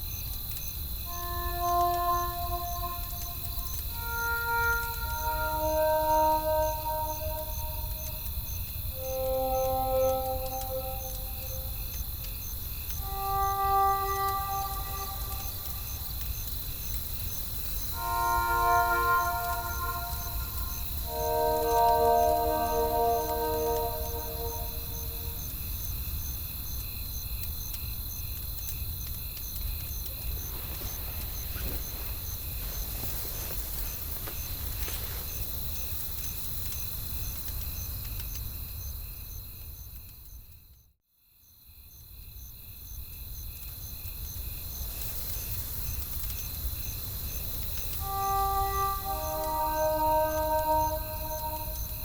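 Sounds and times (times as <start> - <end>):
crickets chirping: 0.0 - 36.5, 42.6 - 52.0.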